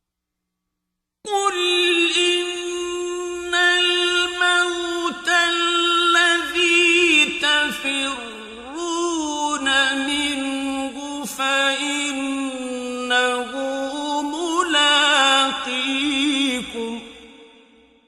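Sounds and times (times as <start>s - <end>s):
man chanting recitation: 1.3s - 17.3s.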